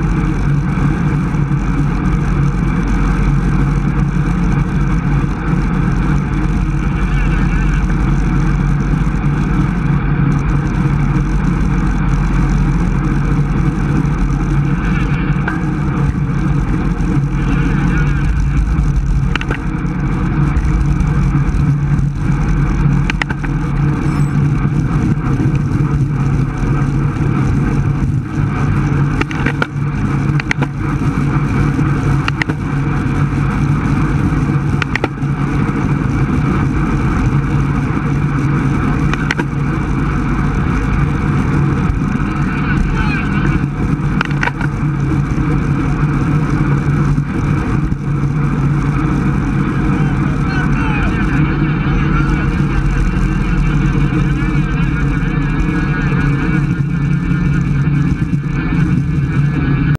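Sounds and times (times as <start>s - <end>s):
tyre noise on asphalt: 0.0s - 59.9s
wind rush on microphone: 0.0s - 59.9s.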